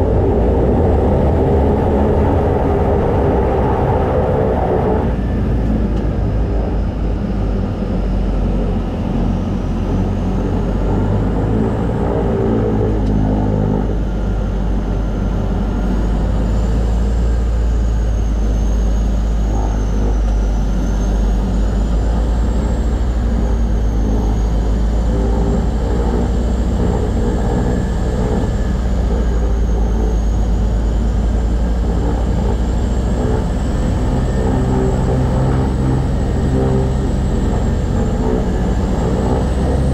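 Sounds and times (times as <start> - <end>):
high turbine whine: 0.0 - 39.9
turboprop engines droning: 0.0 - 39.9.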